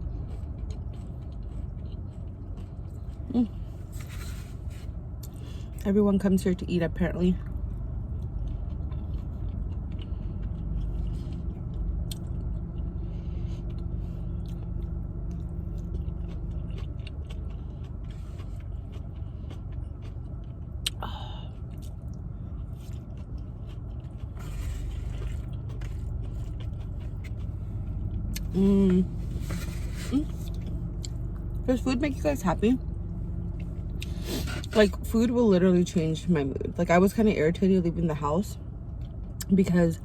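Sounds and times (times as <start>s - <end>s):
person chewing: 0.0s - 5.8s, 7.4s - 31.7s, 32.8s - 35.0s
car air conditioning hum: 0.0s - 40.0s.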